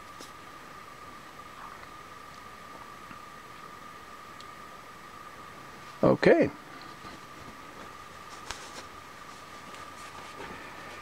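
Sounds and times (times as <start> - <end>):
light hiss: 0.0 - 11.0.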